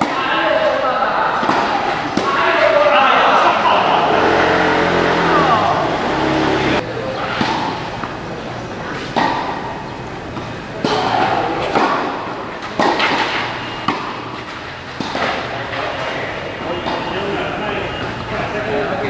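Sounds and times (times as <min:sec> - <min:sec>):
tennis racquets hitting ball: 0:00.0 - 0:18.3
people talking in background: 0:00.0 - 0:19.0.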